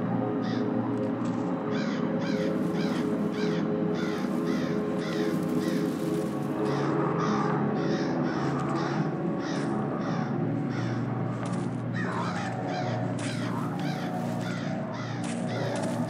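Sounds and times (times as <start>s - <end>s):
low steady drone: 0.0s - 16.0s
crows cawing: 0.2s - 0.8s, 1.6s - 16.0s.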